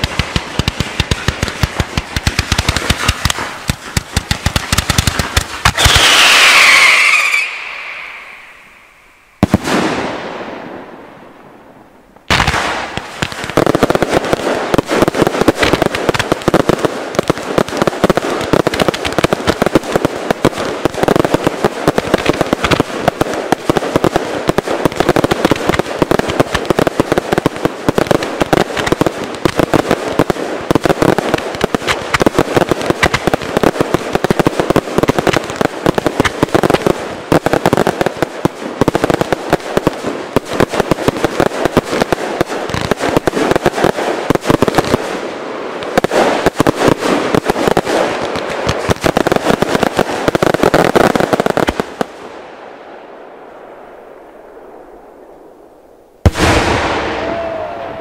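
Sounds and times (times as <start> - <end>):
fireworks crackling and bursting: 0.0 - 58.0.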